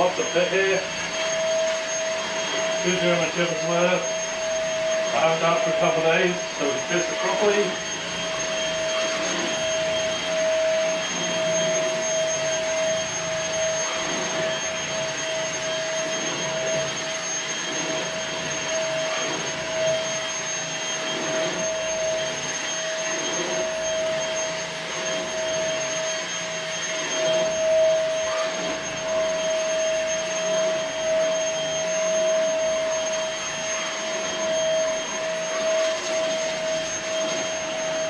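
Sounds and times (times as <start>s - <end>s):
stick vacuum running: 0.0s - 38.0s.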